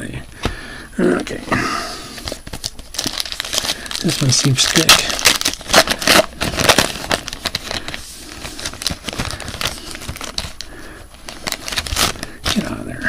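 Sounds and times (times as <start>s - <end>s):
wrapper crinkling: 2.2s - 12.8s.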